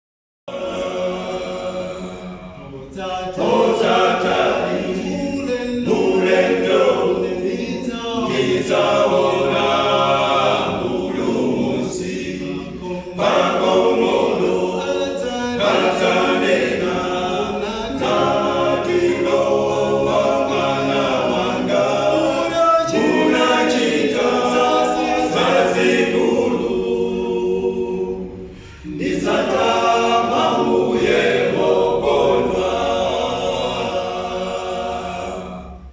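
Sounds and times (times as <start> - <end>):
male group singing in harmony: 0.5 - 35.9.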